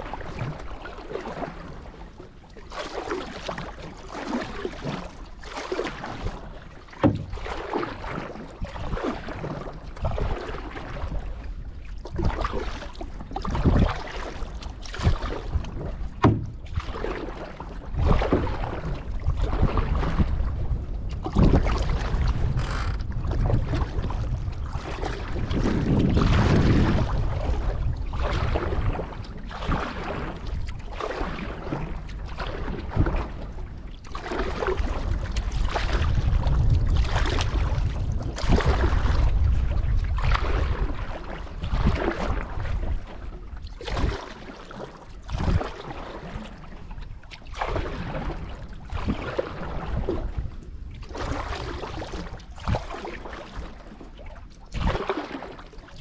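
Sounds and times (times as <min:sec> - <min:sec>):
paddle splashing water: 0:00.0 - 0:56.0
wind rumble on microphone: 0:00.0 - 0:56.0.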